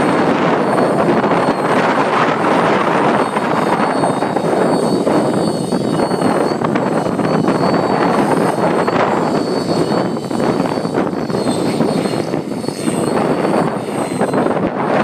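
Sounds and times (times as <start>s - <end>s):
helicopter rotor rush: 0.0s - 15.0s
model helicopter engine whine: 0.0s - 15.0s.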